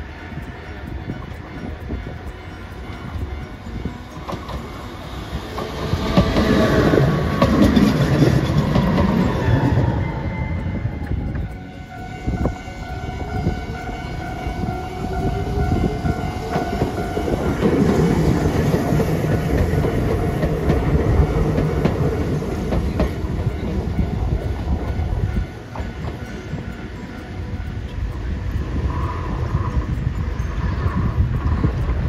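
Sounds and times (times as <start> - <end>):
steady whine: 0.0 - 32.0
tram rumbling past: 0.0 - 32.0
wheels clicking over rail joints: 0.0 - 32.0.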